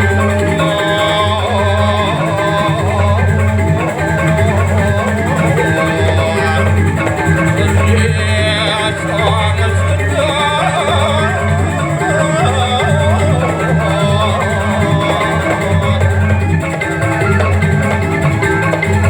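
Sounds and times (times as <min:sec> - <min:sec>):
gamelan music: 0:00.0 - 0:19.0.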